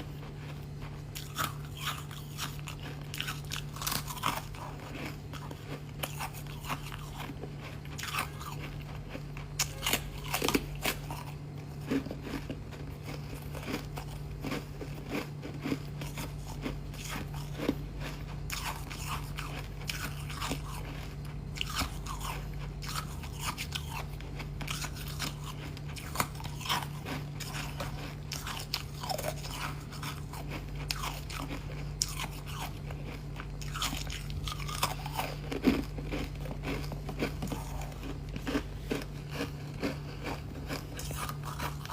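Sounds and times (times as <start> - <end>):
crunchy ice chewing: 0.0 - 41.9.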